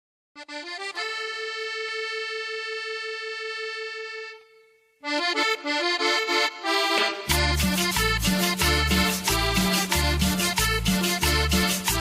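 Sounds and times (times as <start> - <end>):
accordion playing: 0.4 - 12.0.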